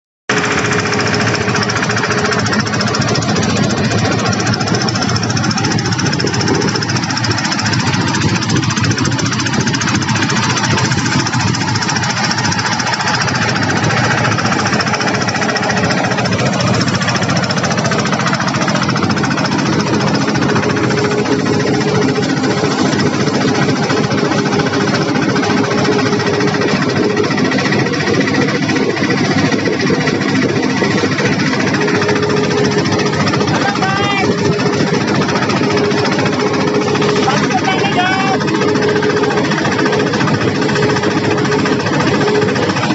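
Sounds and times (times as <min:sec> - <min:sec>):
threshing machine engine chugging: 0:00.3 - 0:42.9.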